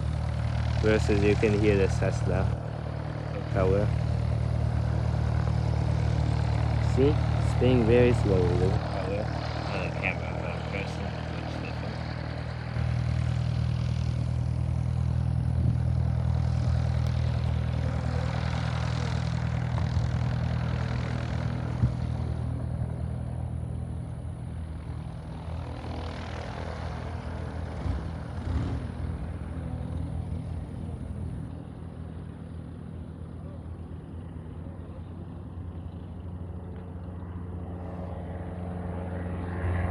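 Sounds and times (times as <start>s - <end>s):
propeller plane engine humming: 0.0s - 39.9s.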